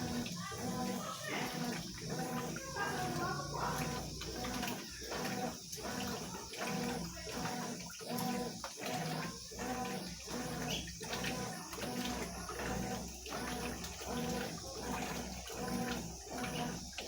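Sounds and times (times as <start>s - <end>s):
washing machine motor humming: 0.0s - 17.0s
water swishing back and forth: 0.0s - 17.0s.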